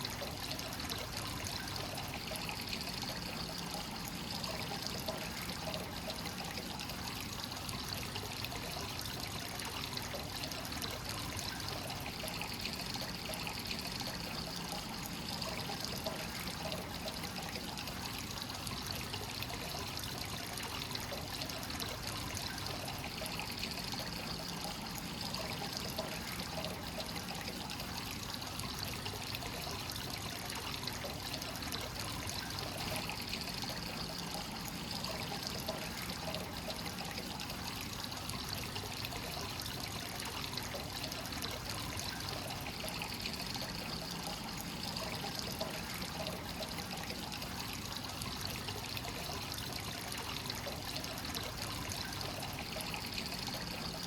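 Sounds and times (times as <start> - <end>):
water pouring and trickling: 0.0 - 54.0.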